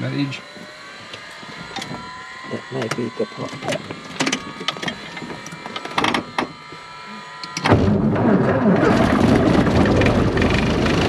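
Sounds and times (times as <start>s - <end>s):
piston aircraft engine running: 0.0s - 11.0s.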